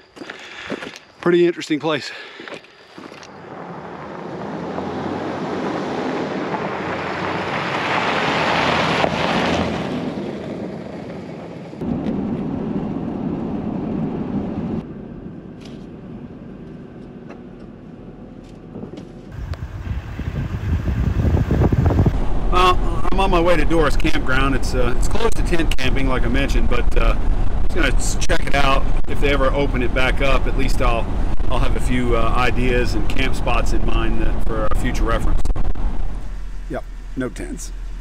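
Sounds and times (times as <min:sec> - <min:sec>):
car tyre and wind noise: 0:02.5 - 0:38.0.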